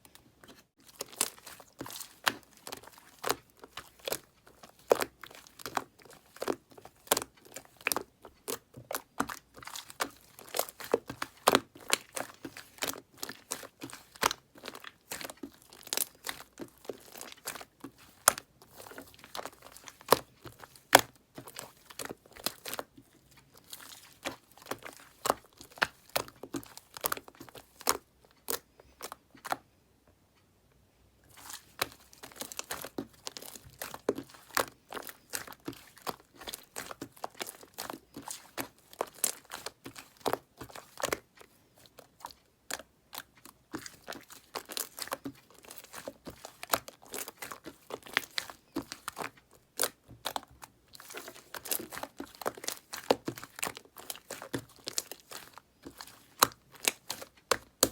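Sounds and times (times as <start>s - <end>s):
bubble wrap crackling and crunching: 0.1s - 29.2s, 31.3s - 57.9s.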